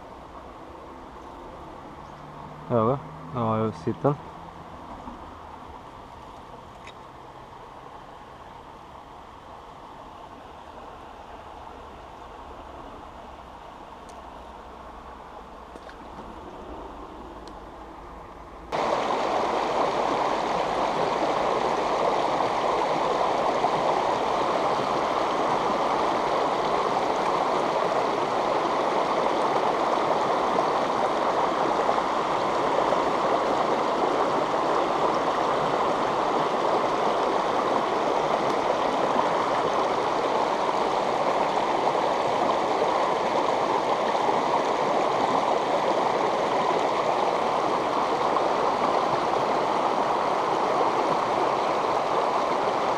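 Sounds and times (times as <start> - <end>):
river water rushing over rocks: 0.0 - 52.9.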